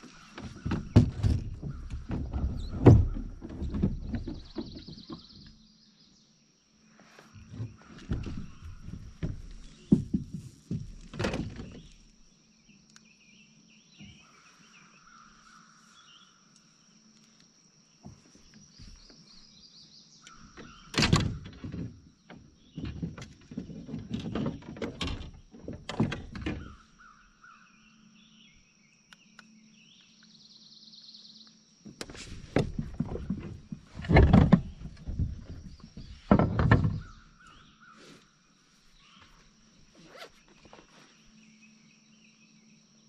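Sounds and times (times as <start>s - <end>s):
birds singing: 0.0s - 17.1s, 17.8s - 43.0s.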